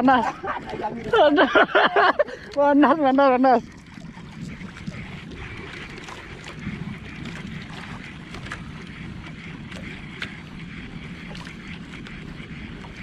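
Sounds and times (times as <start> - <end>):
water lapping against boat: 0.0 - 13.0
wind buffeting microphone: 0.0 - 13.0.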